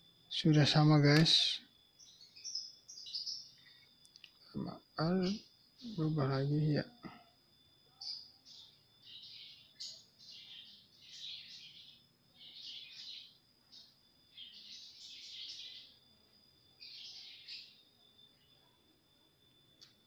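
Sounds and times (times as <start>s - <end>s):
bird chirping: 0.0s - 7.2s, 7.8s - 18.8s
thin high-pitched whine: 0.0s - 20.0s.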